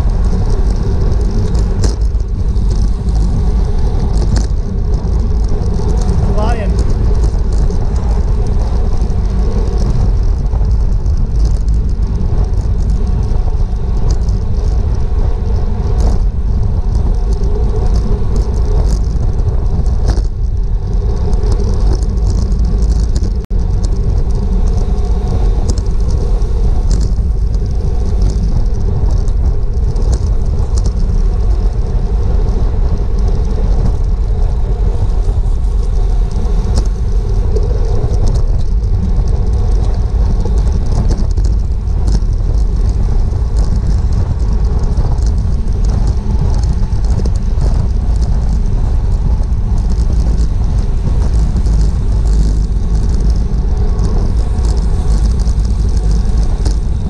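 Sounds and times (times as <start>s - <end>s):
tyres humming on road: 0.0s - 57.0s
wind rushing over microphone: 0.0s - 57.0s.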